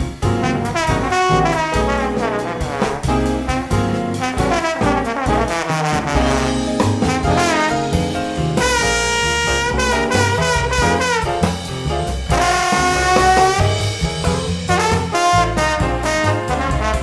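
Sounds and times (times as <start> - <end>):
jazz music with brass horns: 0.0 - 17.0.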